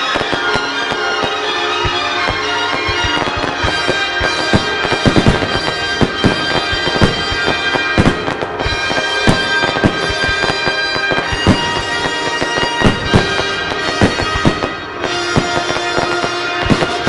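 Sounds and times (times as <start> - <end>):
fireworks bangs: 0.0 - 17.0
show music with held notes: 0.0 - 17.0.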